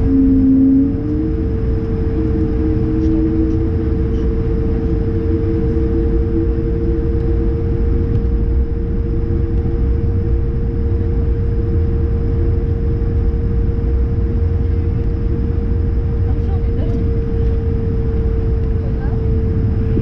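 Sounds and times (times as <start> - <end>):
aircraft cabin hum: 0.0 - 20.0.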